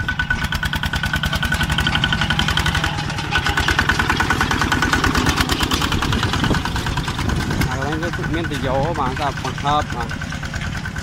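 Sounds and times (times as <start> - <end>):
small tractor engine chugging: 0.0 - 11.0.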